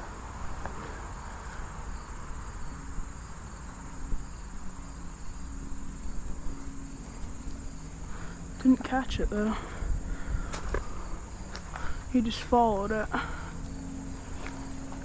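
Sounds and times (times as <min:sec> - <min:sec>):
insects chirring: 0:00.0 - 0:15.0
low outdoor rumble: 0:00.0 - 0:15.0.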